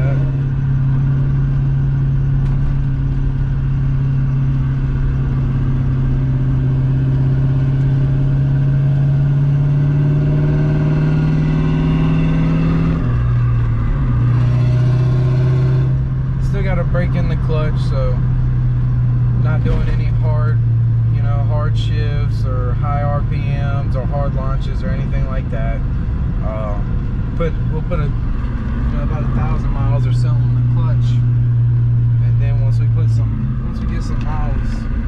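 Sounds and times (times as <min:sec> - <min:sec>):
car engine from inside car: 0:00.0 - 0:35.0.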